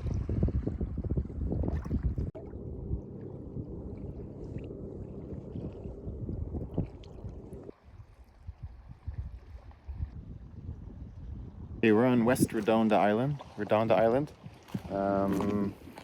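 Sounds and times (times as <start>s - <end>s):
water sounds from kayak: 0.0s - 16.0s
wind rumbling on microphone: 0.0s - 16.0s.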